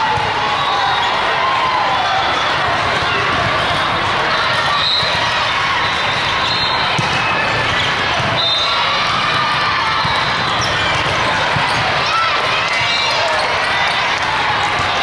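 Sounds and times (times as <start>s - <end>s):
many voices chattering: 0.0s - 15.0s
volleyball hits and bounces: 2.6s - 15.0s.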